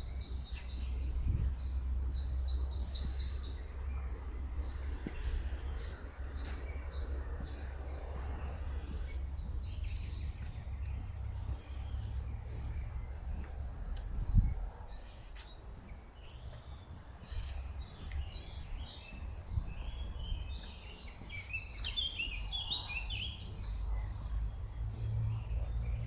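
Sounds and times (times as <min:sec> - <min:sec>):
songbirds chirping: 0:00.0 - 0:26.0
steady low rumble: 0:00.0 - 0:26.0.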